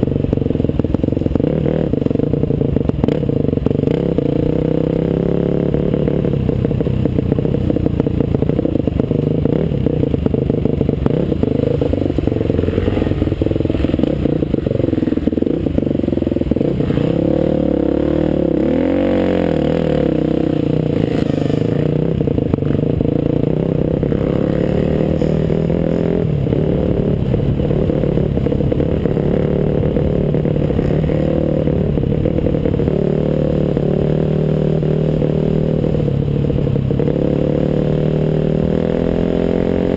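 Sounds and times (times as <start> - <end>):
motorcycle rattles and knocks: 0.0 - 35.0
motorcycle engine running: 0.0 - 39.9.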